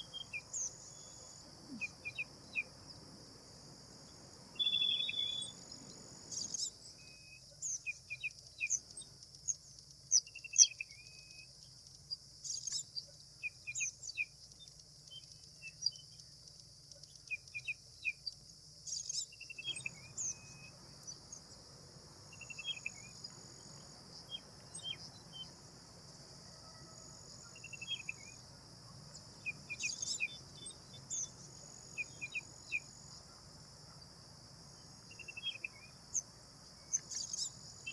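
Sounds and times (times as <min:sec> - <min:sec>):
bird chirps: 0:00.0 - 0:02.9, 0:04.5 - 0:11.5, 0:12.4 - 0:16.3, 0:17.0 - 0:21.5, 0:22.3 - 0:25.6, 0:26.4 - 0:34.0, 0:34.8 - 0:37.9
insects droning: 0:00.0 - 0:37.9.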